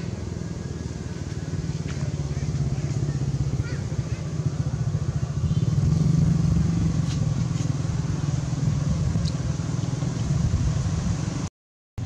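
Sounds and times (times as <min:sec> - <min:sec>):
engine rumbling: 0:00.0 - 0:11.5.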